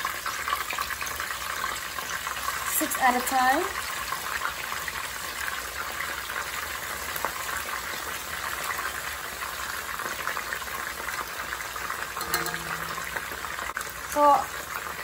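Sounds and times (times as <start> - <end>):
oil sizzling and bubbling: 0.0 - 15.0.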